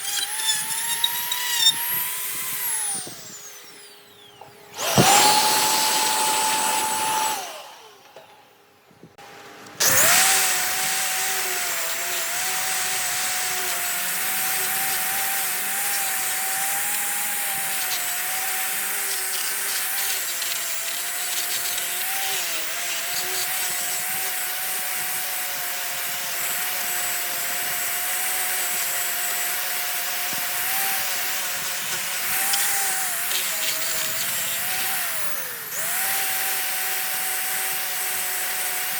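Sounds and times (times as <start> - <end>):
power tool cutting wood: 0.0 - 8.3, 9.8 - 38.9.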